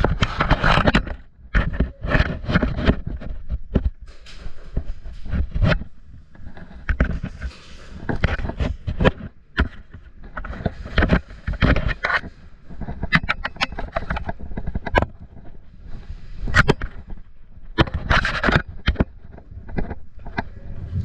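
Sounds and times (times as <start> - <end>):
rustling and scraping: 0.0 - 21.0.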